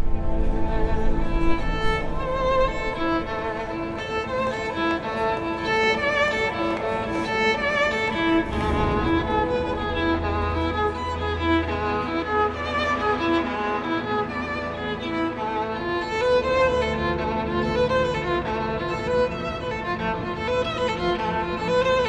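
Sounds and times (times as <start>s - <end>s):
low steady drone: 0.0s - 22.0s
solo violin melody: 0.0s - 22.0s.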